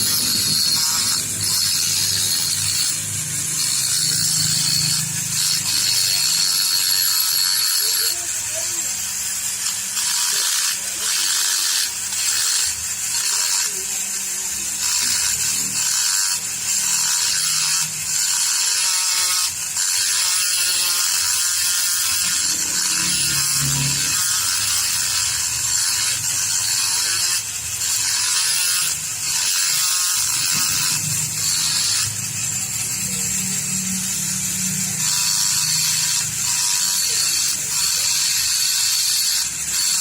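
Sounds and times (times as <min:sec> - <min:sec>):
high-speed power tool running: 0:00.0 - 0:40.0.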